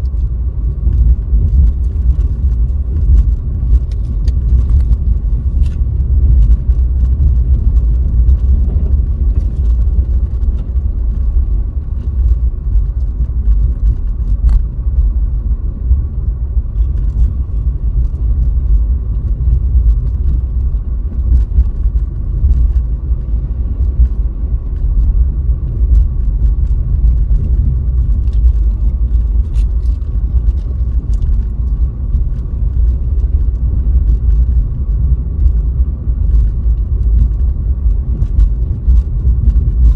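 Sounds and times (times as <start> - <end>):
car driving on snowy road: 0.0 - 39.9.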